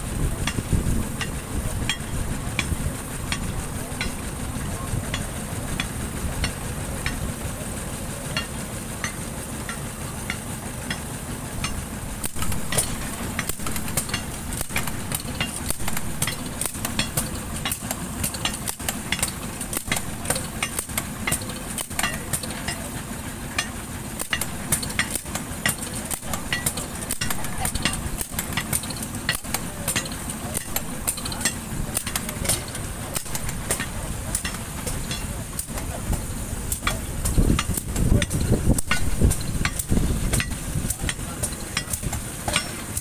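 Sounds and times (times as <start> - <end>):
construction machine engine running: 0.0 - 43.0.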